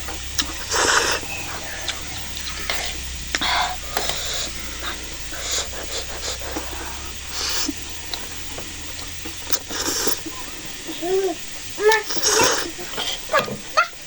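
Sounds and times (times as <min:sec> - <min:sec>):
short hissing bursts: 0:00.0 - 0:14.0
wet chewing: 0:00.0 - 0:14.0.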